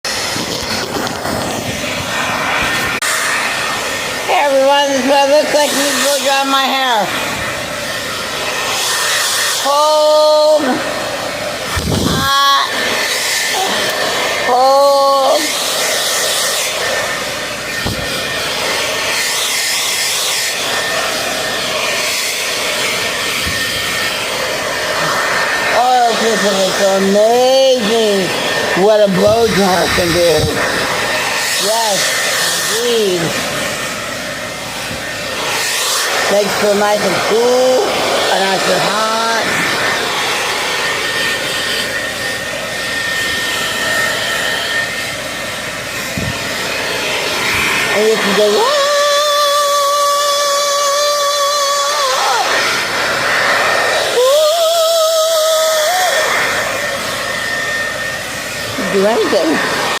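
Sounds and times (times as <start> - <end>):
hair dryer running: 0.0 - 60.0.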